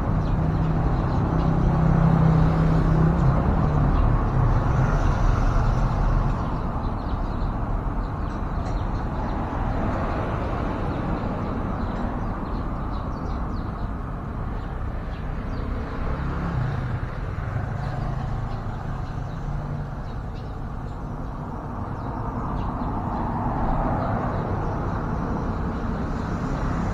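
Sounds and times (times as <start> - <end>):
road traffic: 0.0 - 26.9.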